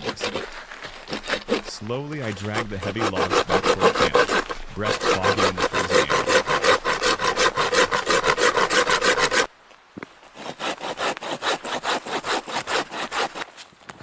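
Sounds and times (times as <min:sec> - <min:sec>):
hand saw cutting wood: 0:00.0 - 0:09.5, 0:10.4 - 0:13.5.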